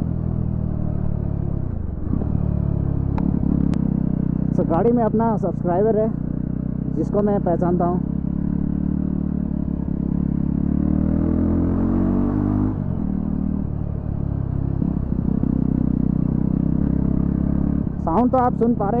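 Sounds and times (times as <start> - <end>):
unmuffled motorcycle engine revving: 0.0 - 19.0.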